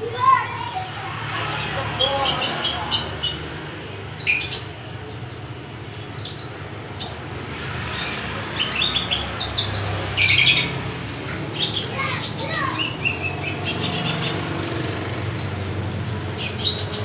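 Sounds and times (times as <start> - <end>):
pet birds chirping and squawking: 0.0 - 17.0.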